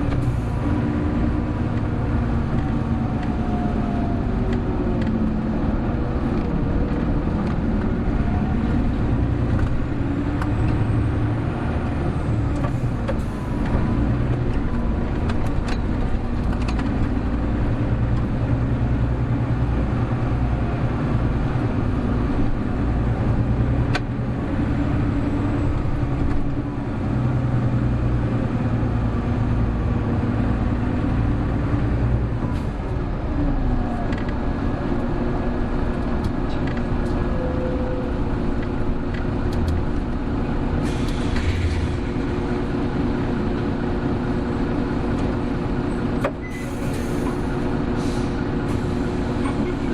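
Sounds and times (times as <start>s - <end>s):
bus diesel engine drone: 0.0s - 49.9s.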